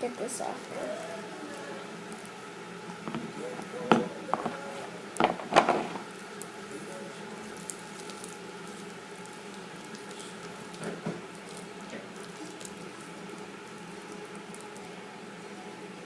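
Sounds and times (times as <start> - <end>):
small crackles of slime: 0.2 - 14.9.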